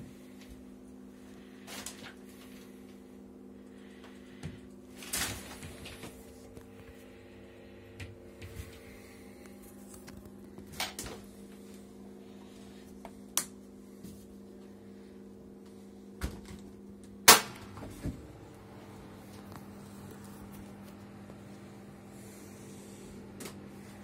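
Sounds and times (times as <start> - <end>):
incubator electrical hum: 0.0 - 24.0.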